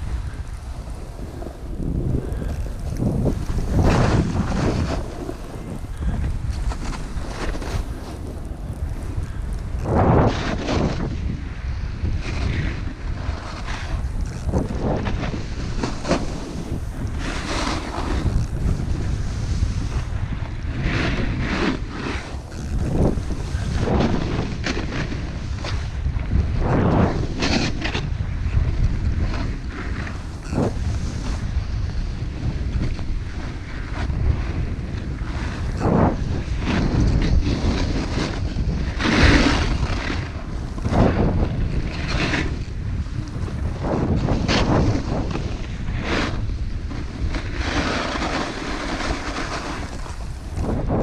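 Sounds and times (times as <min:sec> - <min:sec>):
snowboard swishing through snow: 0:00.0 - 0:51.0
wind on microphone: 0:00.0 - 0:51.0.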